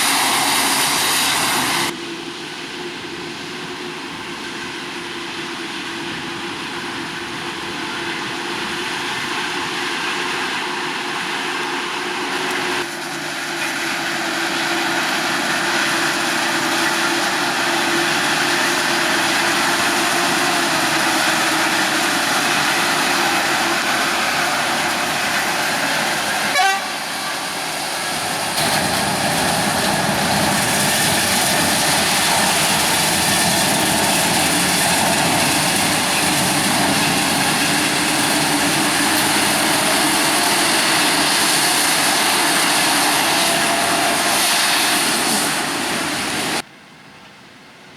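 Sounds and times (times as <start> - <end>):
harvesting machinery engine running: 0.0 - 46.7.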